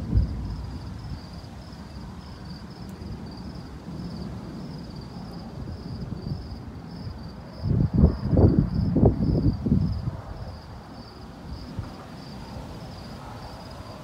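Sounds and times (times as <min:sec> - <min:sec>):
cricket chirping: 0:00.0 - 0:14.0
low thunder rumble: 0:00.0 - 0:14.0.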